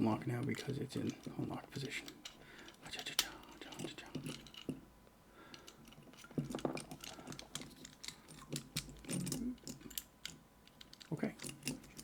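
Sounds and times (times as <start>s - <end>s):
small metal parts clicking: 0.4s - 4.8s, 5.5s - 12.0s.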